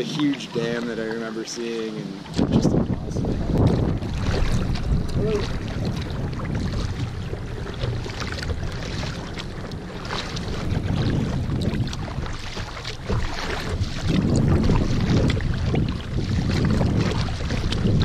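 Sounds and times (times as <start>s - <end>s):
water splashing against kayak: 0.0s - 18.0s
wind rumbling on microphone: 0.0s - 18.0s.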